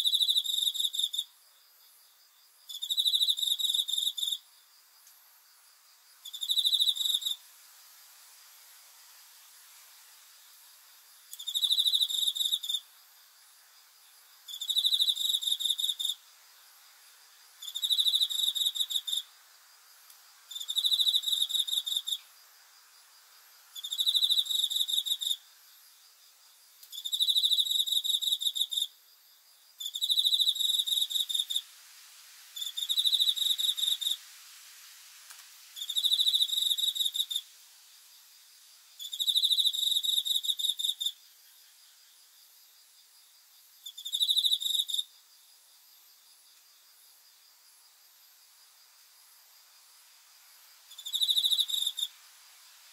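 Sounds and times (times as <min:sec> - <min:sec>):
cricket chirping: 0:00.0 - 0:52.9.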